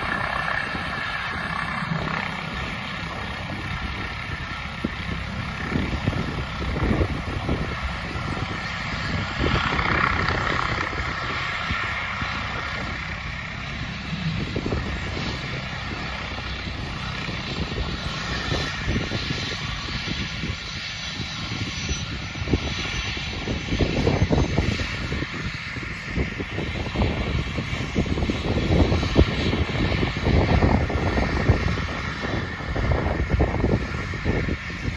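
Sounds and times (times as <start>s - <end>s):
helicopter turbine and rotor: 0.0s - 34.9s.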